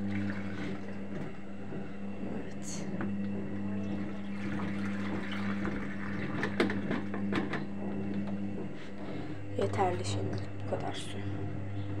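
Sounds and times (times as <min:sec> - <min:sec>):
water running into washing machine: 0:00.0 - 0:02.8, 0:03.4 - 0:11.3
washing machine low hum: 0:00.0 - 0:12.0.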